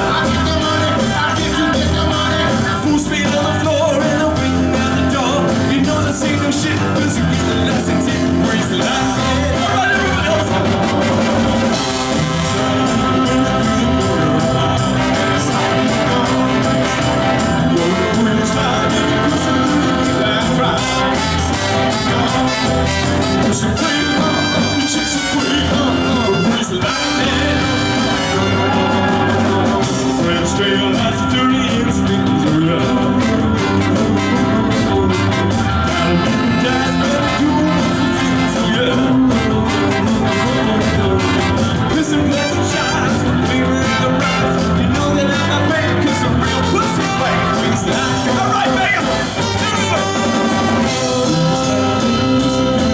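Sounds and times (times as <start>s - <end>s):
live rock and roll band: 0.0s - 52.9s.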